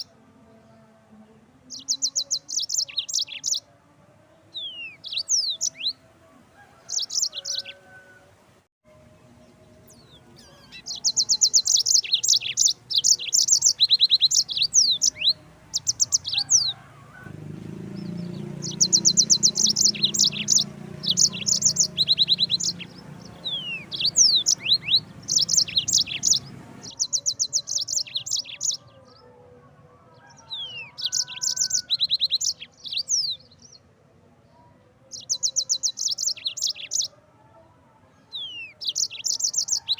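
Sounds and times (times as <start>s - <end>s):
canary singing: 0.0s - 0.8s, 1.6s - 3.7s, 4.4s - 8.2s, 9.4s - 33.9s, 34.9s - 37.2s, 38.2s - 39.9s.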